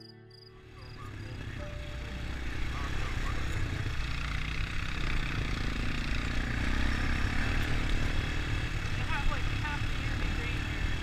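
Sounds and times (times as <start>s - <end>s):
all-terrain vehicle engine running: 0.0s - 11.0s.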